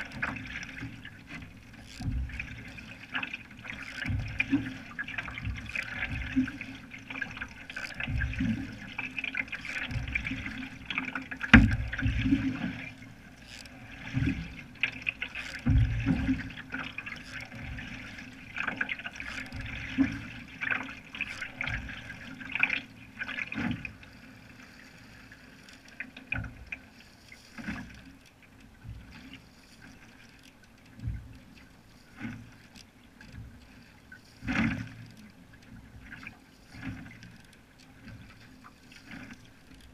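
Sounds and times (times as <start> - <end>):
canoe paddle strokes splashing: 0.0 - 39.9
water trickling along hull: 0.0 - 39.9.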